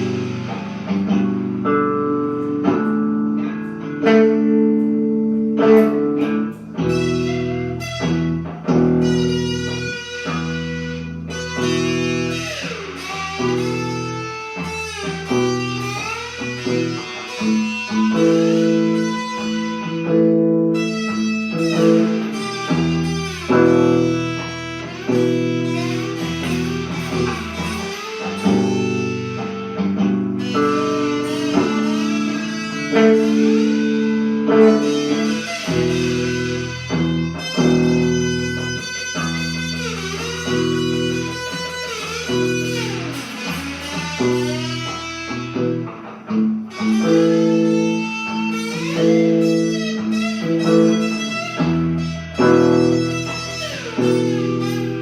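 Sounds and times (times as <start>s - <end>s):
blues guitar with bent notes: 0.0s - 55.0s.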